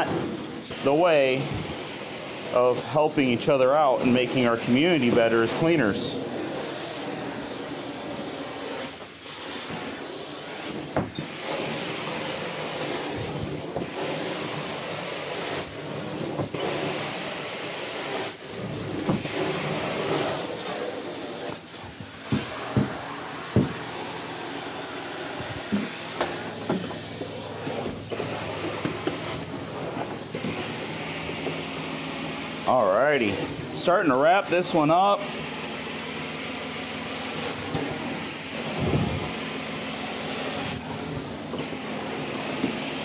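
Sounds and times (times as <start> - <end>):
carpet extractor vacuum suction: 0.0 - 43.0.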